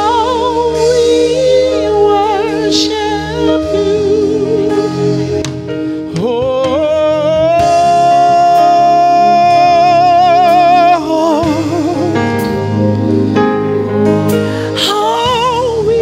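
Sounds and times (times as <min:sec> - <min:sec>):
person singing with vibrato: 0:00.0 - 0:13.0, 0:14.3 - 0:16.0
sustained instrumental backing: 0:00.0 - 0:16.0.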